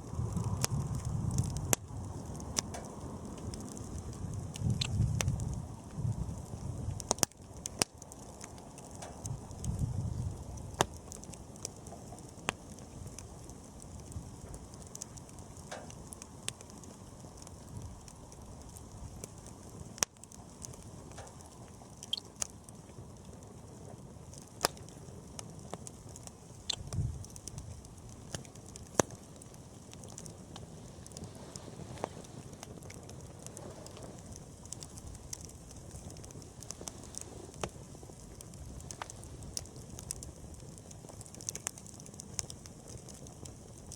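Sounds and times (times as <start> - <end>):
bonfire crackling and popping: 0.0 - 43.9
low rush of burning: 0.0 - 43.9.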